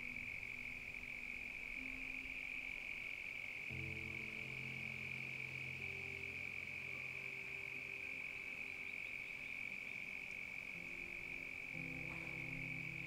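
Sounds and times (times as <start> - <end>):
frogs trilling: 0.0 - 13.0.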